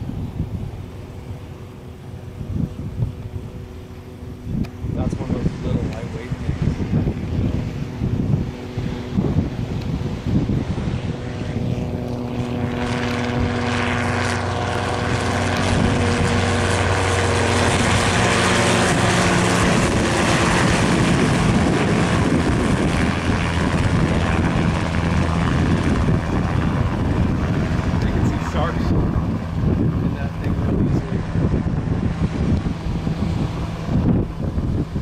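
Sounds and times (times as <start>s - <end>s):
helicopter drone: 0.0s - 35.0s.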